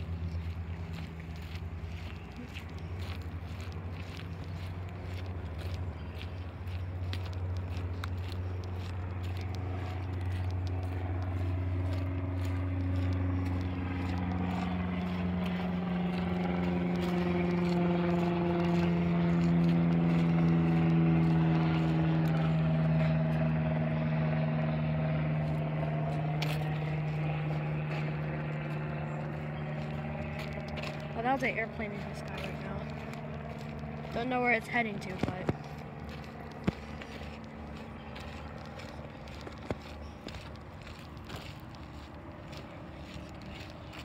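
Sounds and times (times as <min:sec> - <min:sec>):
airplane passing overhead: 0:00.0 - 0:44.0.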